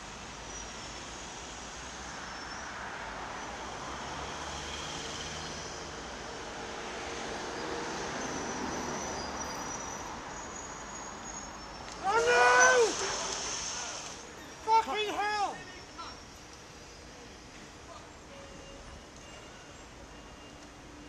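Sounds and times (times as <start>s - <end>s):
traffic engine rumble: 0.0s - 21.0s
traffic hiss: 0.0s - 21.0s.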